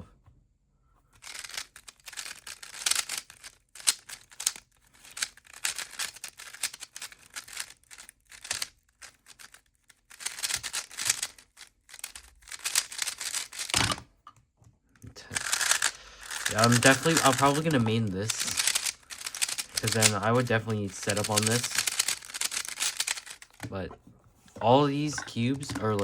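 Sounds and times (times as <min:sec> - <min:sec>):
plastic cube layers clicking: 0:01.2 - 0:14.0, 0:15.1 - 0:26.0.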